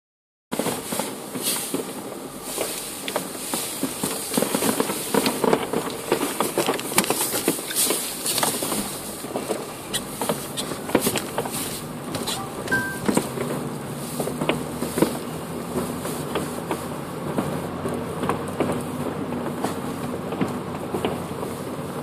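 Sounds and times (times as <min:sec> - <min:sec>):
fireworks crackling and banging: 0:00.5 - 0:21.9
car engine and road noise: 0:00.5 - 0:22.0.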